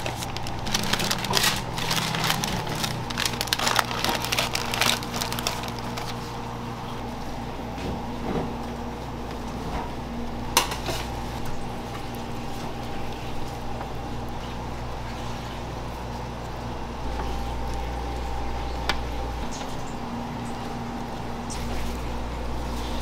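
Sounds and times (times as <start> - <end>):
kitchen equipment hum: 0.0 - 23.0.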